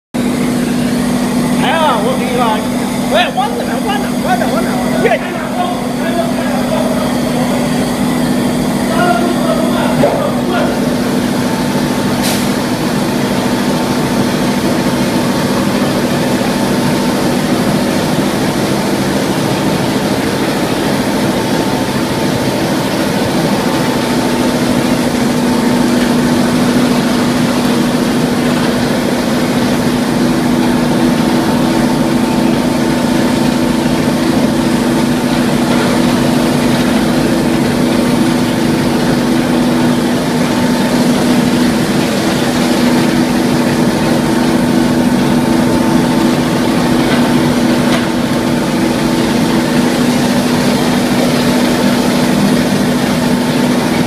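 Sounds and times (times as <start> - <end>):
plastering machine droning: 0.2 - 54.0.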